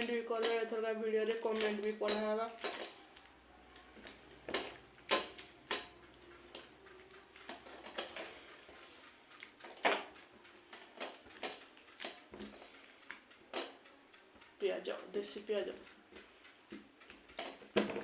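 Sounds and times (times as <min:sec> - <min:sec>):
dishes clicking and clinking: 0:00.0 - 0:14.6, 0:15.7 - 0:18.0.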